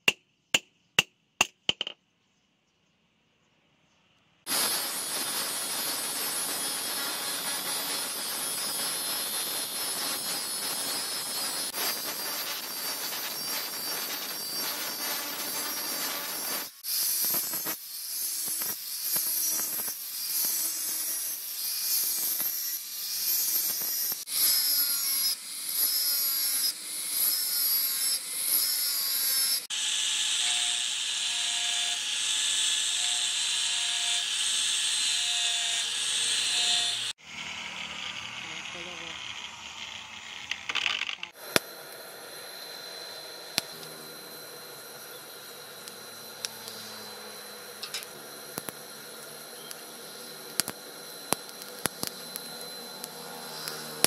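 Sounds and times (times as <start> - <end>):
angle grinder grinding steel: 4.5 - 54.0.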